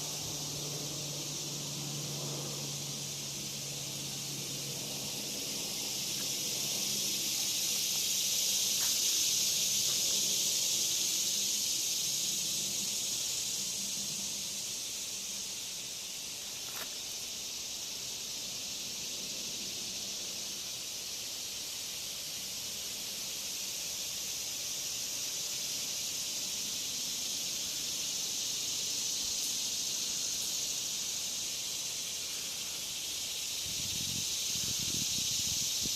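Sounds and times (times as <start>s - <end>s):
insect chorus buzzing: 0.0s - 35.9s.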